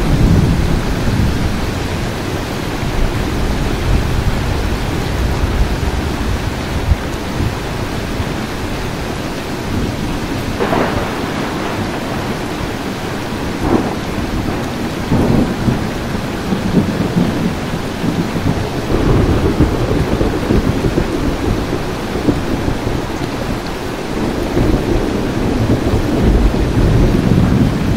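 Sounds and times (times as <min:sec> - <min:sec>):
thunder cracks and rumble: 0:00.0 - 0:08.6, 0:09.7 - 0:27.9
steady rain: 0:00.0 - 0:27.9.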